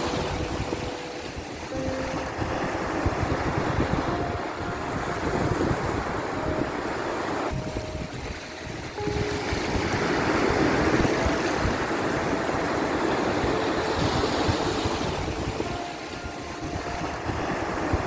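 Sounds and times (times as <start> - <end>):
ocean waves washing in: 0.0 - 18.0.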